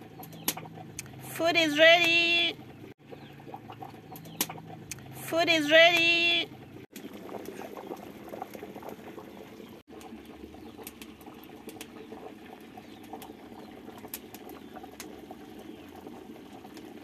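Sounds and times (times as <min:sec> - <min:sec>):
stew bubbling in a pot: 0:00.0 - 0:05.3, 0:06.5 - 0:17.0.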